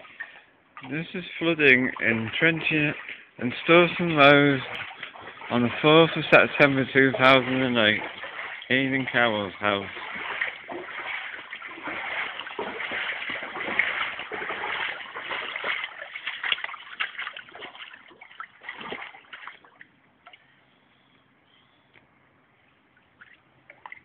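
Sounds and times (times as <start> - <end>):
floodwater splashing: 0.0 - 20.5, 23.0 - 24.0.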